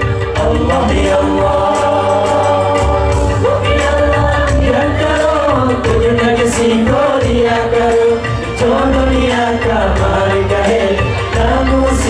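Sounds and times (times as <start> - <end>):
live band playing: 0.0 - 12.0
man singing into a microphone: 0.0 - 12.0.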